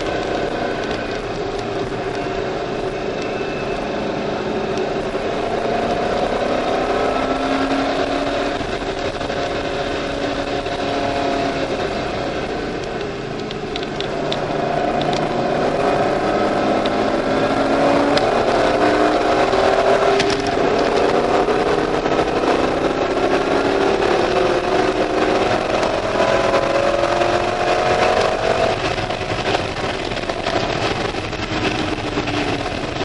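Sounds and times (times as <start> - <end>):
car engine revving: 0.0 - 33.0
road and wind noise: 0.0 - 33.0.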